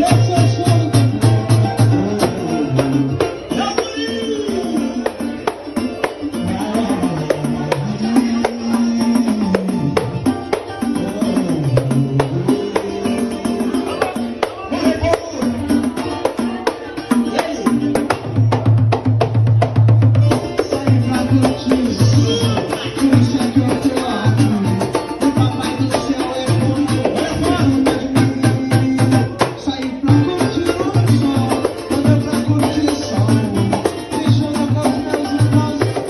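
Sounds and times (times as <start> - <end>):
samba band playing: 0.0 - 36.0.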